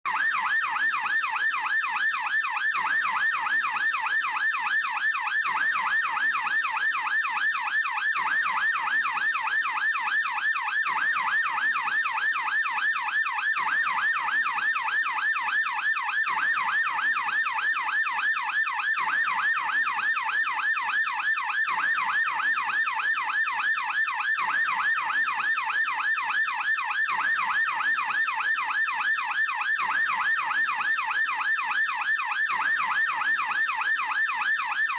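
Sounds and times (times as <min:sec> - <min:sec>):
police siren yelping: 0:00.1 - 0:34.9.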